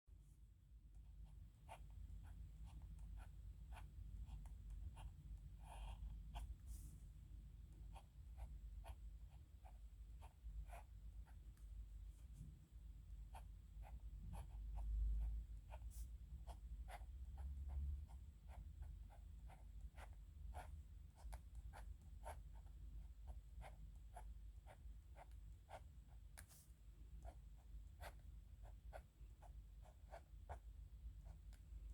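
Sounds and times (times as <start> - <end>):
pen scratching on paper: 1.3 - 6.9, 7.8 - 11.4, 13.2 - 31.9.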